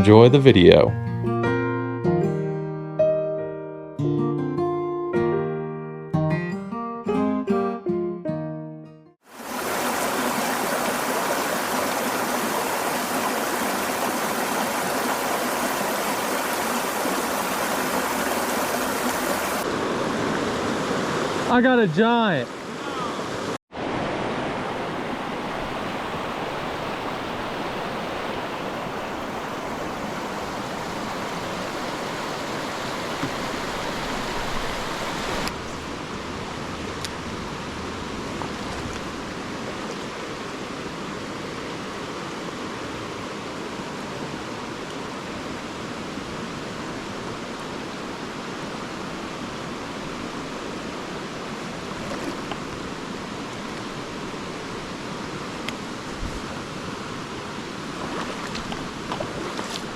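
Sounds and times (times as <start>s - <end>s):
stream water rushing: 9.2s - 59.9s.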